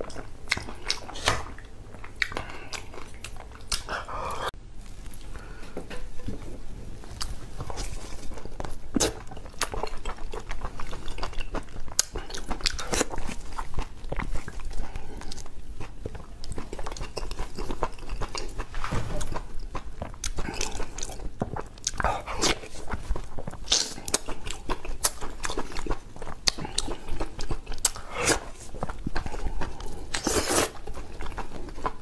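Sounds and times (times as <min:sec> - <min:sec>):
person chewing and slurping: 0:00.0 - 0:32.0.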